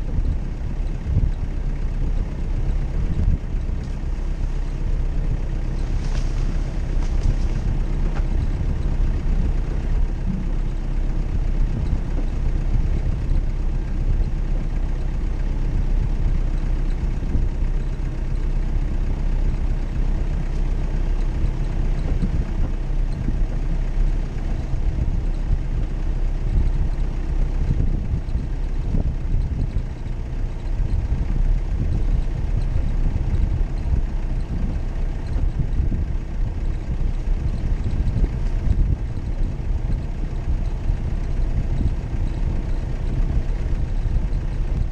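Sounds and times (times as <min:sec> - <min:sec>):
vehicle engine idling low: 0:00.0 - 0:44.9.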